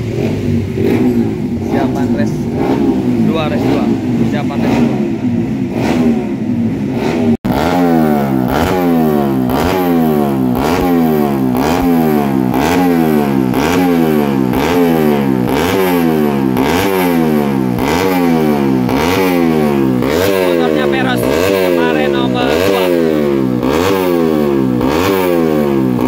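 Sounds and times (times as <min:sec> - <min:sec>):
engine running steadily: 0:00.0 - 0:26.0
motorcycle engine revving: 0:00.0 - 0:26.0.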